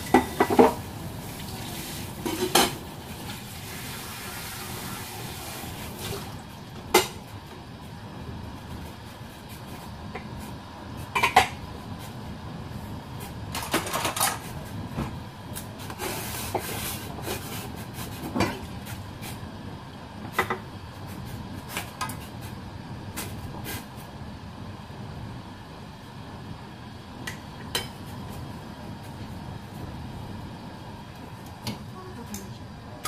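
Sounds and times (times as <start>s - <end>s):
water boiling in a pot: 0.0s - 33.0s.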